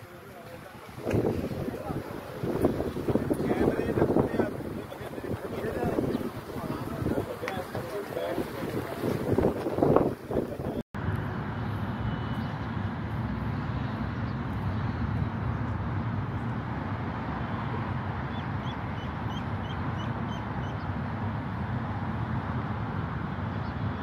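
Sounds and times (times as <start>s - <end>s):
city background rumble: 0.0s - 24.0s.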